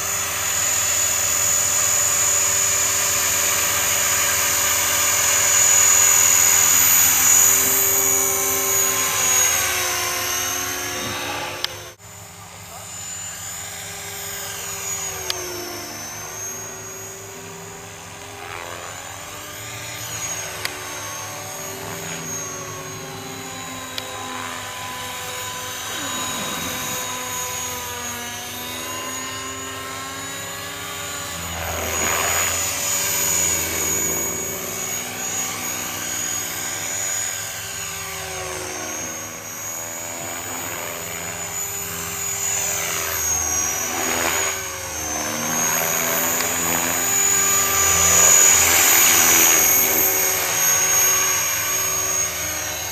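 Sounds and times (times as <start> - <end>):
model helicopter engine whine: 0.0 - 52.9.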